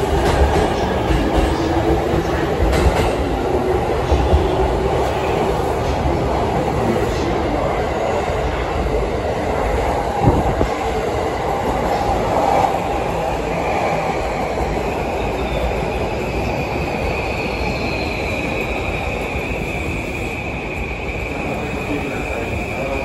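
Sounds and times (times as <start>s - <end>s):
train rumble and wheel clatter: 0.0s - 23.0s.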